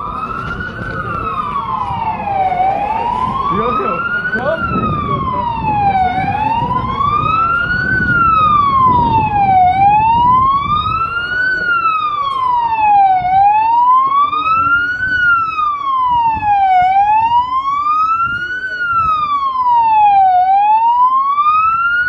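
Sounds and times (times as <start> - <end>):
police siren wailing: 0.0 - 22.0.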